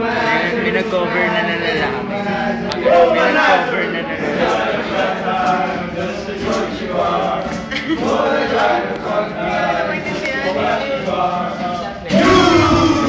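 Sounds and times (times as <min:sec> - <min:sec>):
people talking: 0:00.0 - 0:13.0
young men singing together: 0:00.0 - 0:13.0.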